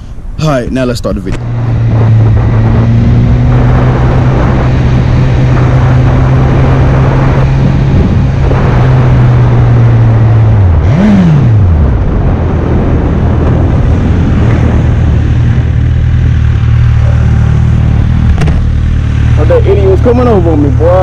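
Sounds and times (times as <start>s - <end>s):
wind on microphone: 1.3s - 19.3s
motorcycle engine running: 1.3s - 21.0s.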